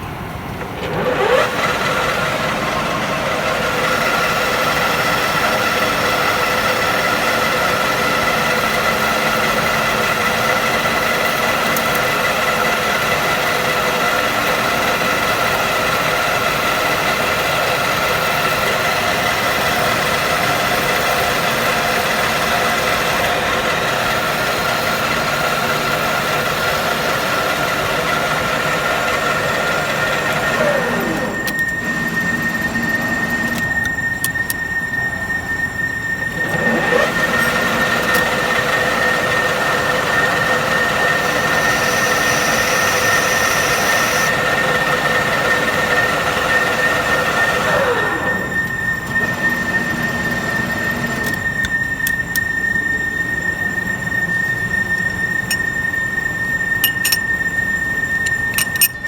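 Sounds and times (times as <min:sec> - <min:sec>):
lathe whining: 0:00.0 - 0:59.0.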